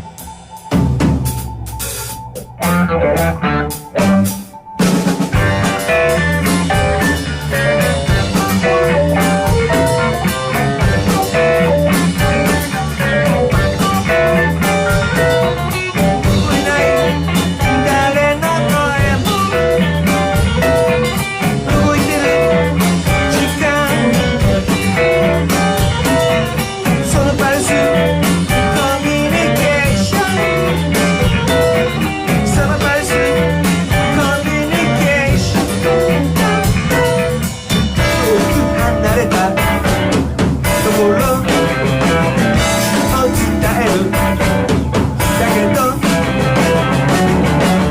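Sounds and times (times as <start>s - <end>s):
guitar riff: 0.0s - 47.9s
rock band playing: 0.0s - 47.9s.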